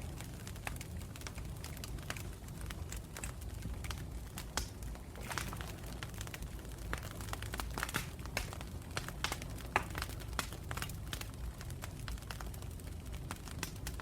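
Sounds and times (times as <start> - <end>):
wood campfire crackling: 0.0 - 14.0.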